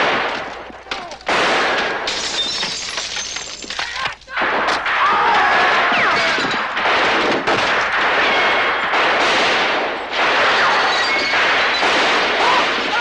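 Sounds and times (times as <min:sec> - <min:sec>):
rapid gunshots: 0:00.0 - 0:02.5, 0:04.3 - 0:13.0.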